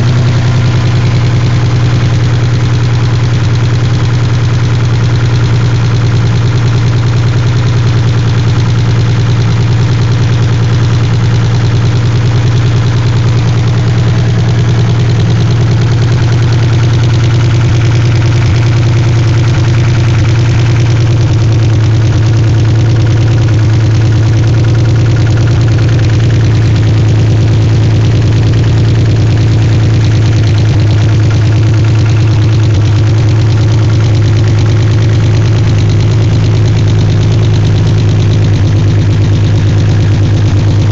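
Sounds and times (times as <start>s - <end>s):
car engine idling: 0.0s - 40.9s
engine lifter ticking: 0.0s - 40.9s.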